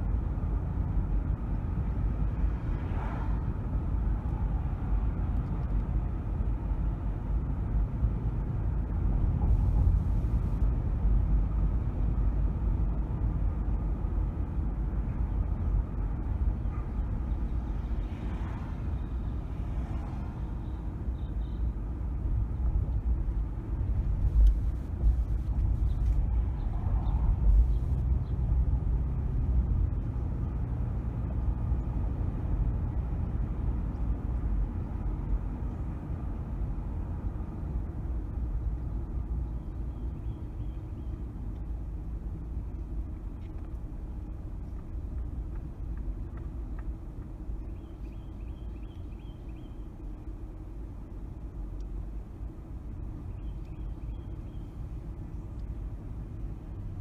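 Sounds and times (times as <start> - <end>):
car road and engine rumble: 0.0 - 57.0
faint traffic sounds: 0.0 - 57.0.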